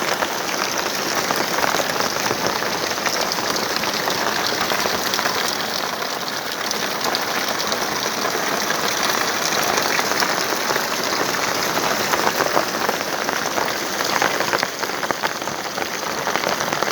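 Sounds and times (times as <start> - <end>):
rain on hard surface: 0.0 - 16.9.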